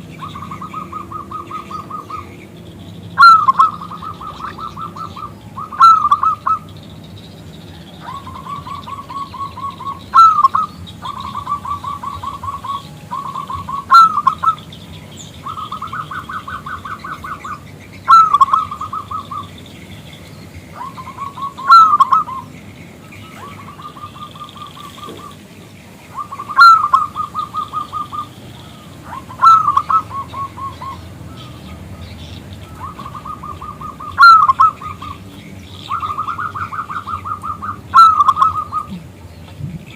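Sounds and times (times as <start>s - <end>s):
dove cooing: 0.0s - 6.9s, 7.6s - 19.6s, 20.6s - 39.9s.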